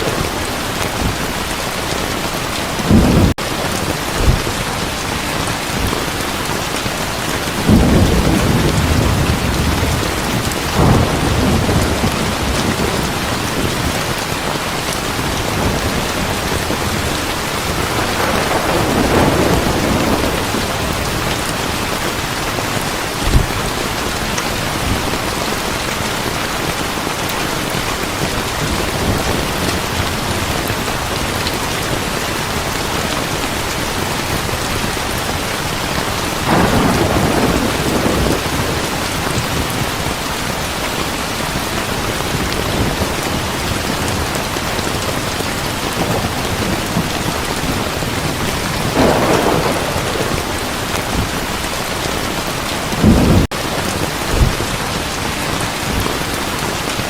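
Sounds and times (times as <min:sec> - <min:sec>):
thunder rumbling: 0:00.0 - 0:40.6, 0:41.4 - 0:56.2
heavy rain falling: 0:00.0 - 0:57.0.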